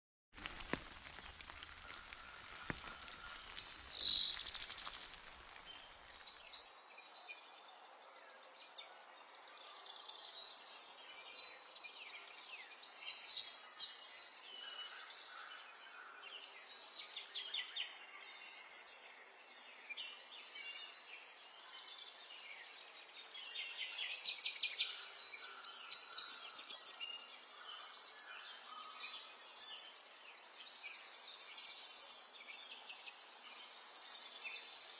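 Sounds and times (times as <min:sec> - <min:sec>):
songbirds chirping: 0:00.4 - 0:34.9.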